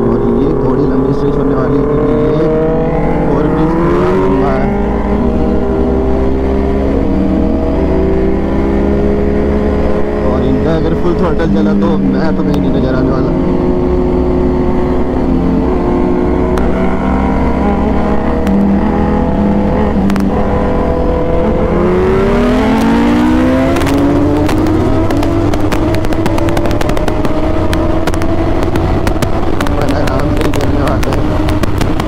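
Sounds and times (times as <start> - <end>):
low wind rumble: 0.0 - 32.0
motorcycle engine running: 0.0 - 32.0.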